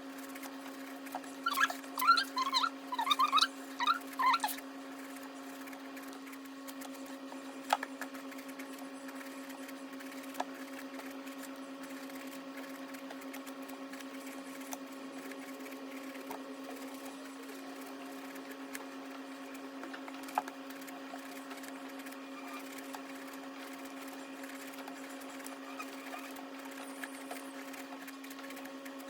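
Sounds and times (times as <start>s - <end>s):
small motor humming: 0.0s - 29.0s.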